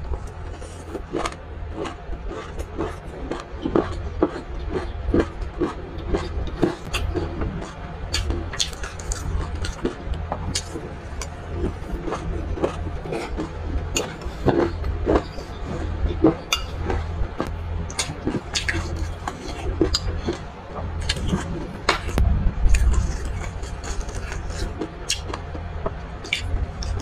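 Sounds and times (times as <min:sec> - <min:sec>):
crisp chewing: 0:00.0 - 0:27.0
low steady hum: 0:00.0 - 0:27.0.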